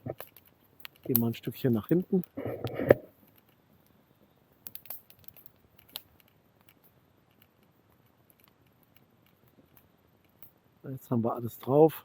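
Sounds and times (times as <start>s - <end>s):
campfire crackling: 0.0s - 10.8s.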